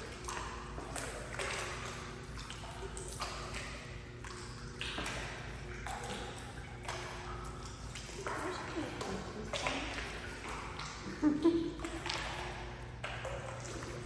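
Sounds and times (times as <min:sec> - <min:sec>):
low hum of pool hall: 0:00.0 - 0:14.0
water splashing: 0:00.0 - 0:14.0.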